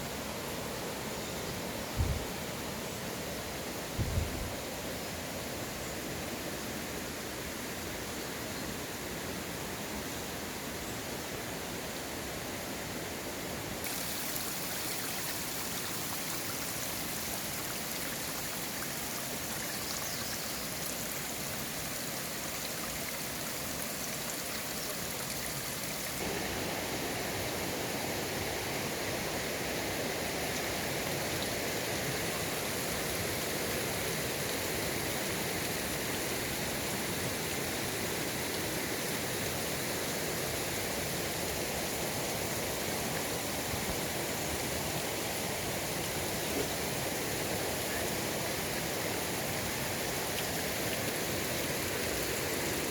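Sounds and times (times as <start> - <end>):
stream water flowing: 0.0 - 52.9.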